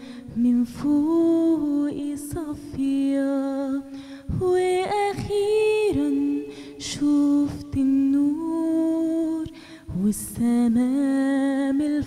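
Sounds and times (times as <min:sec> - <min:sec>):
woman singing into a microphone: 0:00.0 - 0:12.0.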